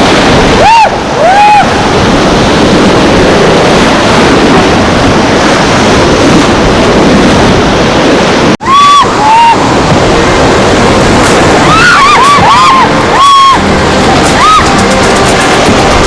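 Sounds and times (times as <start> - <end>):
rushing river rapids: 0.0 - 16.0
wind buffeting microphone: 0.0 - 16.0.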